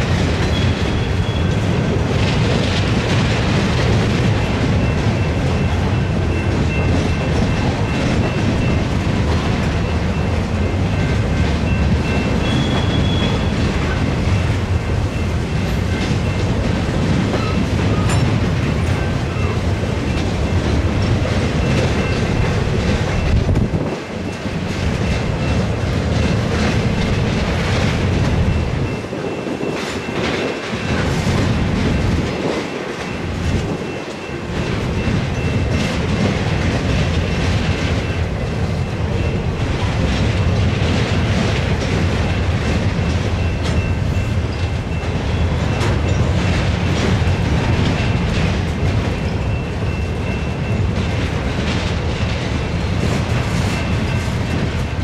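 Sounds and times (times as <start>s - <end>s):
freight train wheels rumbling: 0.0s - 55.0s
rail clicks and knocks: 0.0s - 55.0s.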